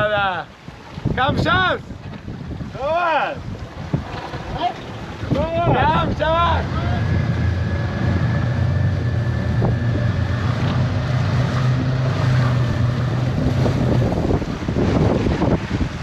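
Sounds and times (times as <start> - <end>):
boat engine humming: 0.0 - 16.0
wind buffeting microphone: 0.0 - 16.0.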